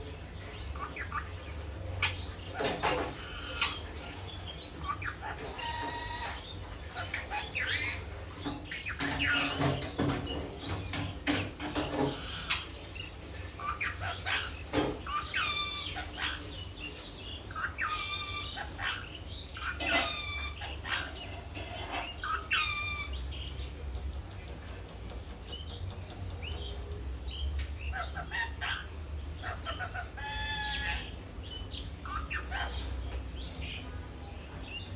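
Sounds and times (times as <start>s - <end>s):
parakeet chattering and calling: 0.0s - 34.9s.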